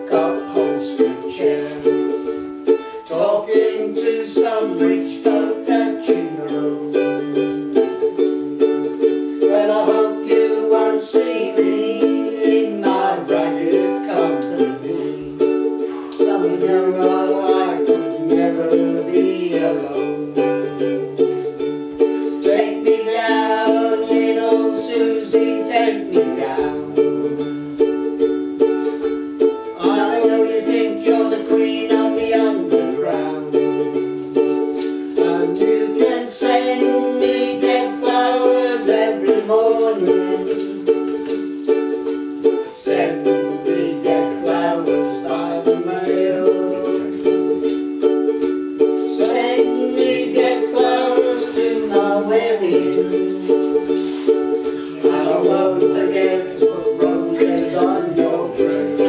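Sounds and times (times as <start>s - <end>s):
ukulele strumming chords: 0.0s - 59.0s.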